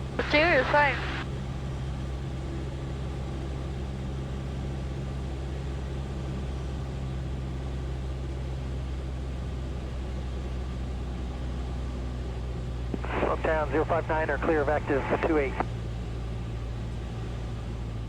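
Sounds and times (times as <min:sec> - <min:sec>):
propeller plane engine hum: 0:00.0 - 0:18.0.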